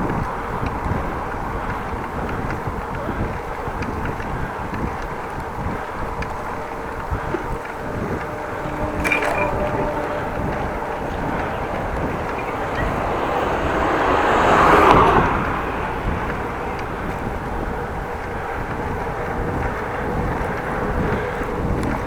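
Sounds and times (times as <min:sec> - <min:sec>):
passing vehicle: 0:00.0 - 0:22.0
wind and road noise: 0:00.0 - 0:22.0.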